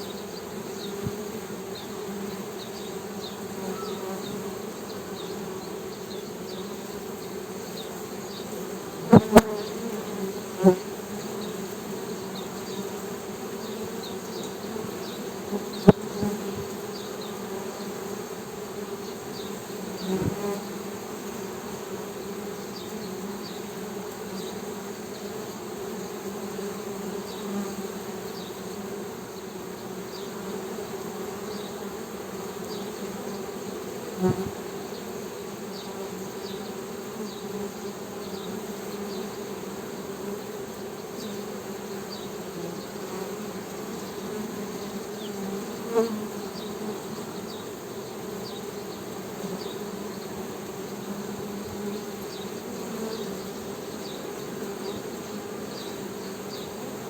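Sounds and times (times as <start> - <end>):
honey bees buzzing: 0.0 - 57.0.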